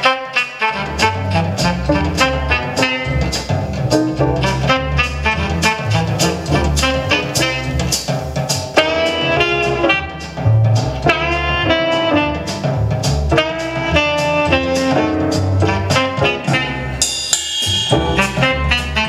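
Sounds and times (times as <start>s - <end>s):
instrumental jazz with saxophone: 0.0s - 17.0s, 18.0s - 19.0s.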